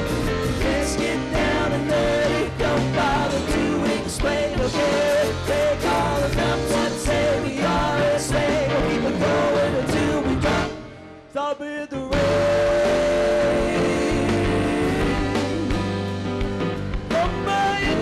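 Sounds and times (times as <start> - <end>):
live rock band playing: 0.0 - 11.3, 12.1 - 18.0.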